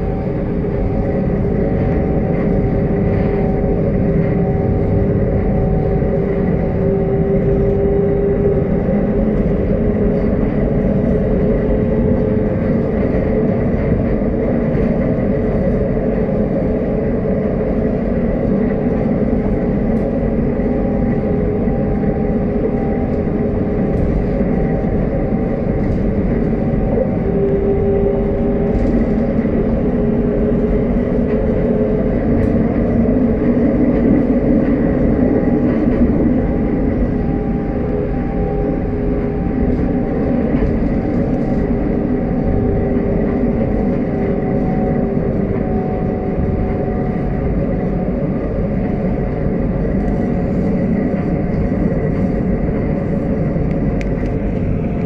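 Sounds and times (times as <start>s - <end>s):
tram rumbling on track: 0.0s - 55.0s.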